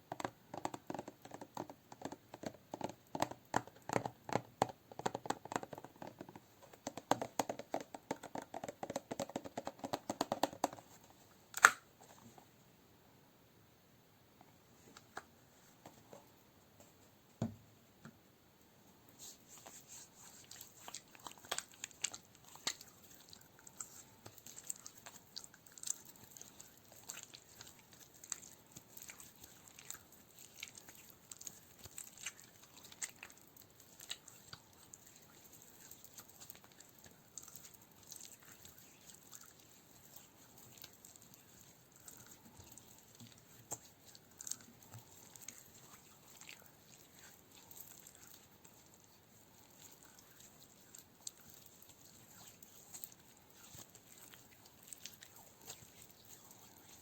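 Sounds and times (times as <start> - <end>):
crackling and sticky clicking: 0.1 - 10.8, 11.5 - 11.8, 20.3 - 57.0.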